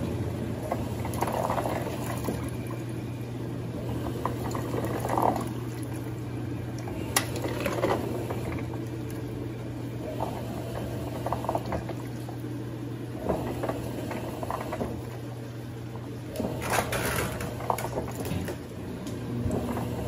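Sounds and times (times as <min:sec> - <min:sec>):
washing machine hum: 0:00.0 - 0:20.0.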